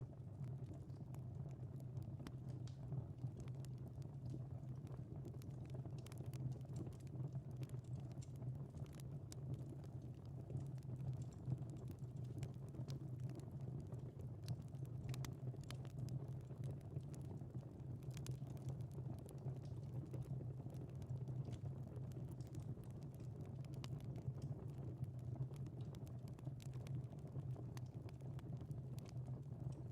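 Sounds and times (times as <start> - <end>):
low rumble of burning: 0.0 - 29.9
wood fire crackling: 0.1 - 29.9.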